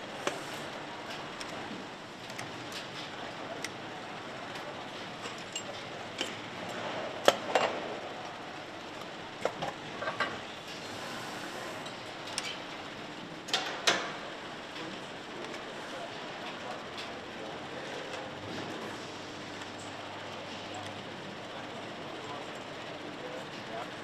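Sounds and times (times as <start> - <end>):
factory background noise: 0.0 - 24.0.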